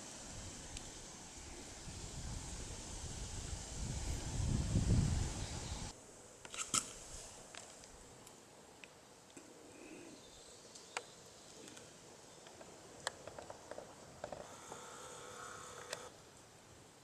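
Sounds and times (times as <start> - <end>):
faint woodland background: 0.0 - 17.0.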